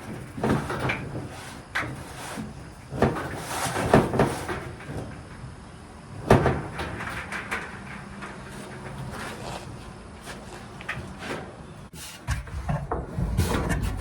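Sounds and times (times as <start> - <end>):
dryer parts knocking and clunking: 0.0 - 14.0.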